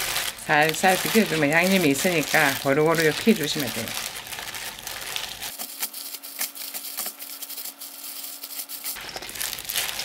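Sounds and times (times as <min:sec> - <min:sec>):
wet leaves rustling and squelching: 0:00.0 - 0:05.6, 0:07.5 - 0:10.0
plastic gloves crinkling: 0:00.0 - 0:10.0.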